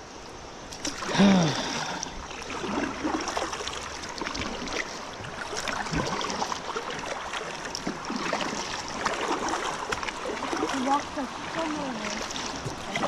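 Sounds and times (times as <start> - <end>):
river water splashing: 0.0 - 13.0.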